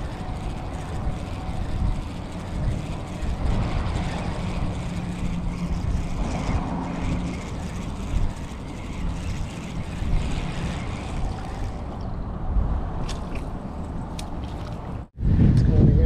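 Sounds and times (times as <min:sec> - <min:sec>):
faint engine hum: 0:00.0 - 0:15.2
highway traffic: 0:00.0 - 0:15.6
wind buffeting microphone: 0:00.0 - 0:16.0.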